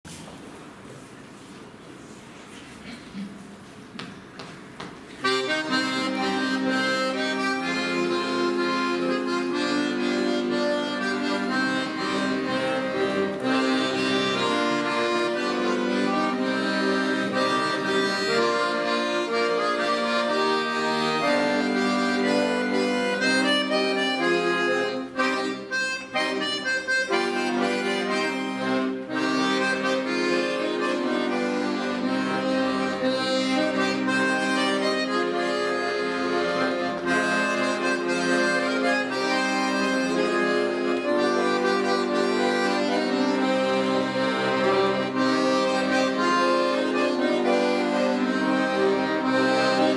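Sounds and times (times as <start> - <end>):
accordion ensemble playing: 5.0 - 49.9.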